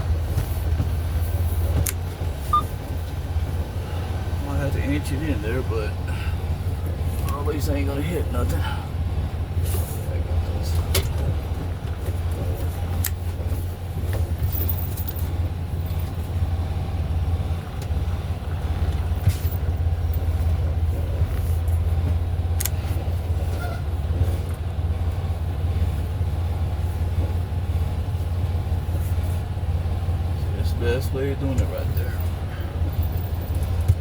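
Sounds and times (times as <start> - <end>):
truck diesel engine droning: 0.0 - 34.0.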